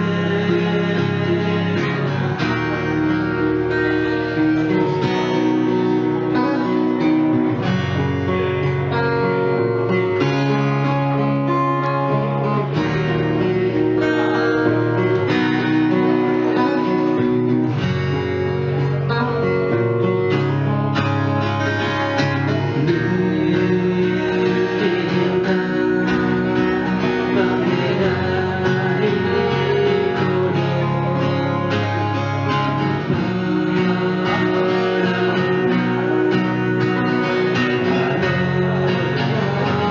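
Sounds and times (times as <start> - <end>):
man singing: 0.0 - 7.6, 8.9 - 17.6, 18.7 - 39.9
acoustic guitars strummed and picked: 0.0 - 39.9.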